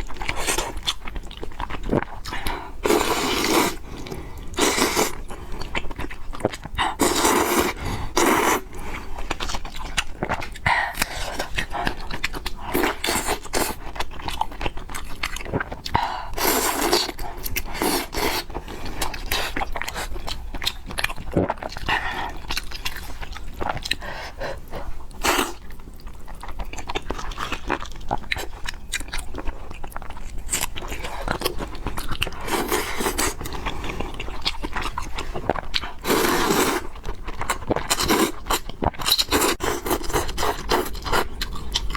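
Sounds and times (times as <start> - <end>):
wet chewing and crunching: 0.0 - 41.9.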